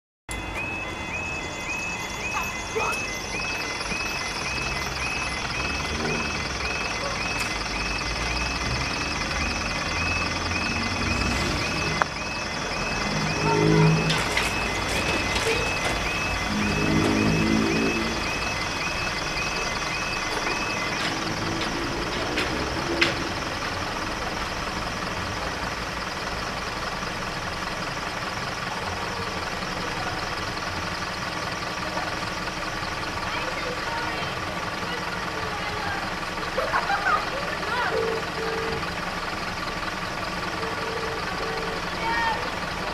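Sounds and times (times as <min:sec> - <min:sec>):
level crossing alarm: 0:00.3 - 0:42.9
traffic engine rumble: 0:00.3 - 0:42.9.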